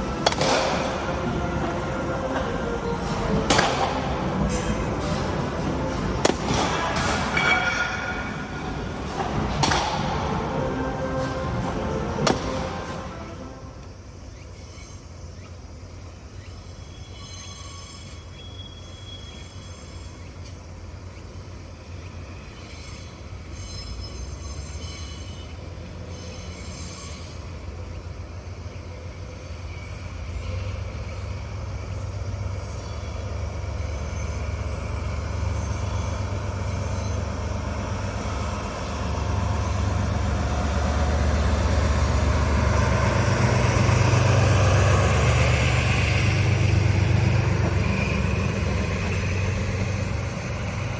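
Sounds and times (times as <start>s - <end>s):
wheel squeals: 0.0s - 15.2s, 16.7s - 20.3s, 22.1s - 50.9s
diesel locomotive engine hum: 0.0s - 50.9s.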